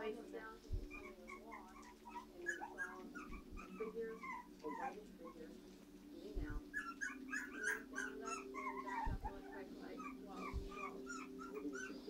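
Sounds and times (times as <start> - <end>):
puppies whimpering: 0.7 - 12.0.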